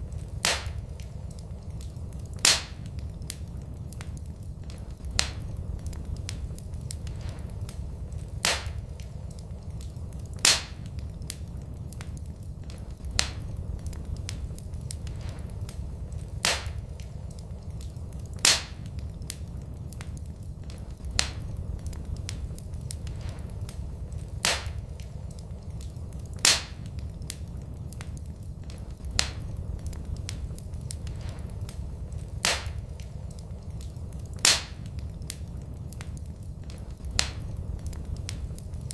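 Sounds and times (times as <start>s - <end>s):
fire popping: 0.0s - 38.9s
low rumble: 0.0s - 38.9s
wood fire crackling: 0.0s - 38.9s.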